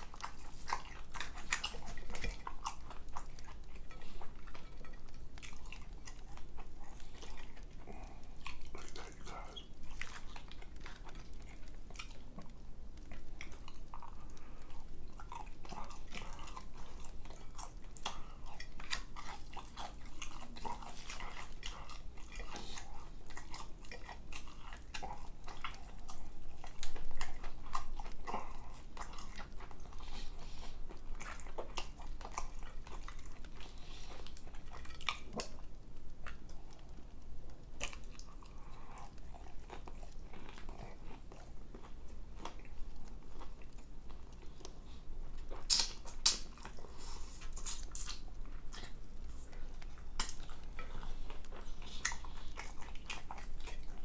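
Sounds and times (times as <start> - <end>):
chewing fried chicken: 0.0 - 54.0.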